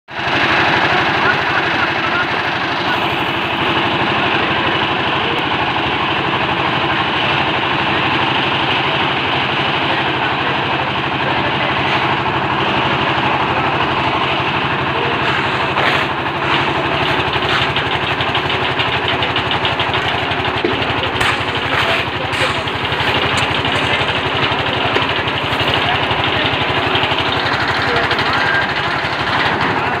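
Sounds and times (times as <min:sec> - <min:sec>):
concrete mixer engine running: 0:00.1 - 0:30.0.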